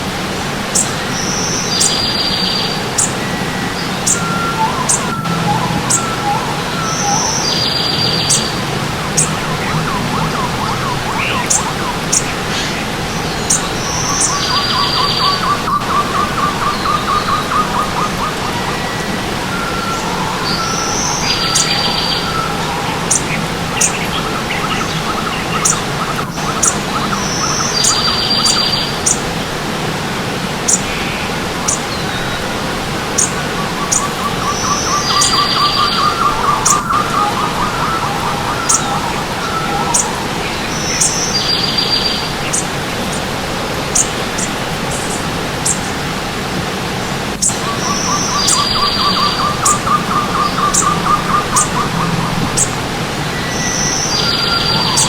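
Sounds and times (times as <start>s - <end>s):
birds chirping and trilling: 0.0s - 55.0s
stream water rushing: 0.0s - 55.0s.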